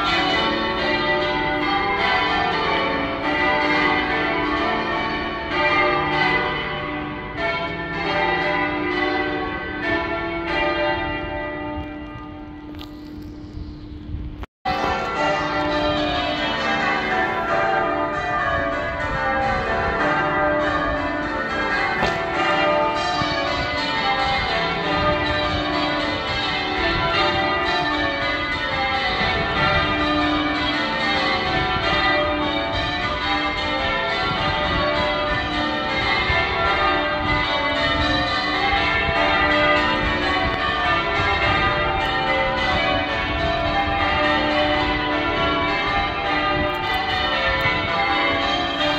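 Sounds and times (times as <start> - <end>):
church bells change ringing: 0.0 - 14.1, 14.7 - 48.9.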